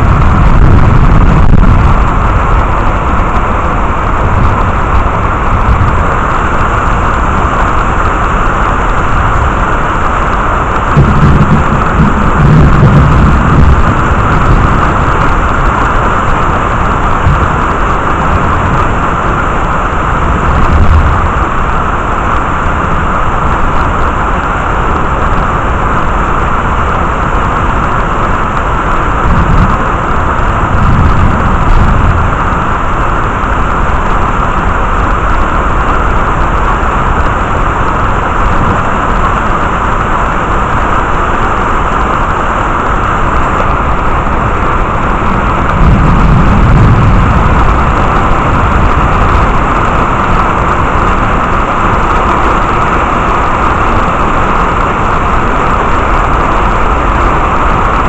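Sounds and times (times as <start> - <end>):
heavy rain: 0.0 - 58.0
thunder rumbling: 0.0 - 58.0.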